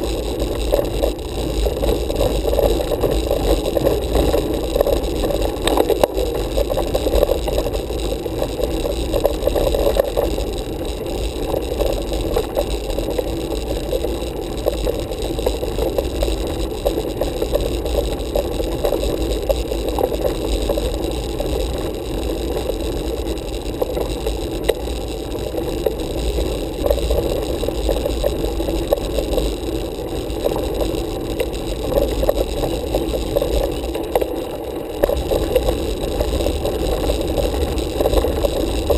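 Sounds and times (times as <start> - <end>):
bike tyres rumbling on asphalt: 0.0 - 38.9.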